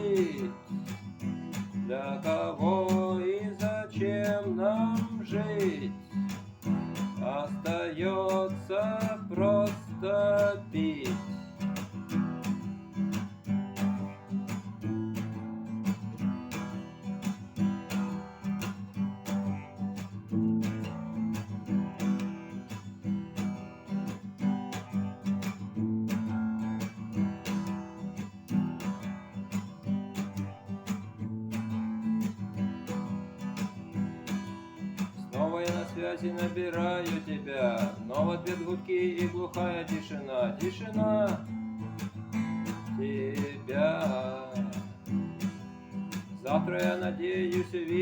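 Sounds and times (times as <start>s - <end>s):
guitar strumming chords: 0.0s - 48.0s.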